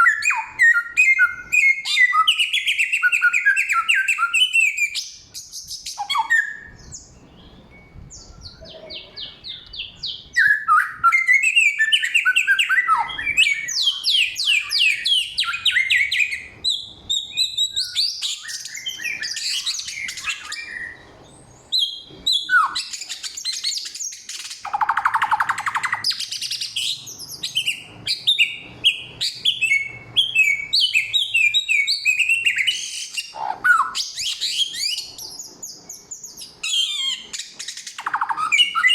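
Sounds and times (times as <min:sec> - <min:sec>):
songbird singing chirps and trills: 0:00.0 - 0:38.9.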